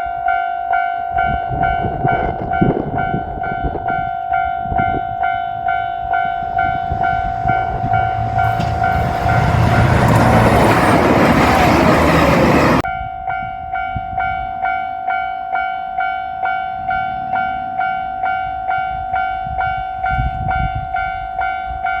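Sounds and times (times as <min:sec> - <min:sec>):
level crossing warning bell: 0:00.0 - 0:22.0
diesel railcar passing: 0:01.1 - 0:22.0.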